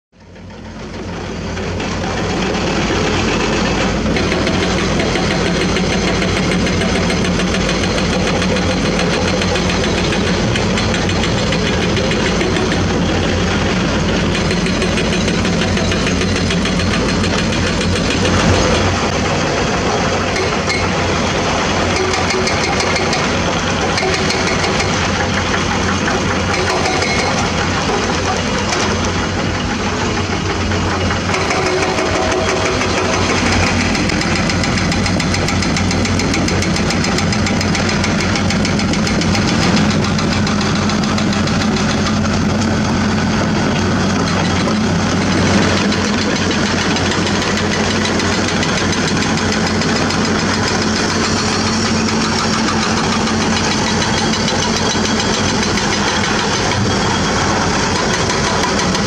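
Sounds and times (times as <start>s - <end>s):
excavator diesel engines running: 0.2s - 59.0s.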